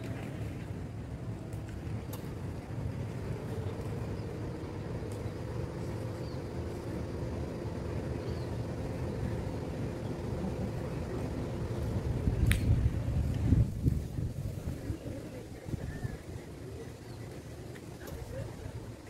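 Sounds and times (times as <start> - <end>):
faint steady hum: 0.0 - 19.0
low outdoor rumble: 0.0 - 19.0.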